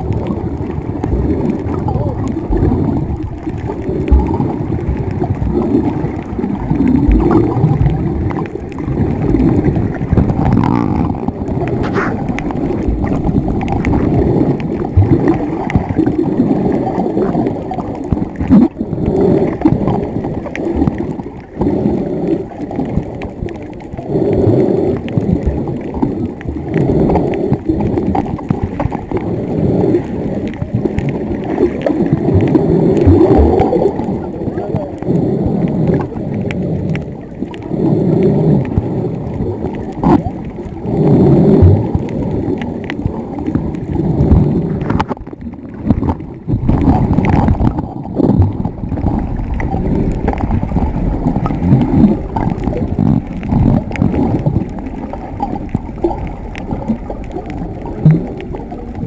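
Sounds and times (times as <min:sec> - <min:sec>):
underwater churning and gurgling: 0:00.0 - 0:59.0.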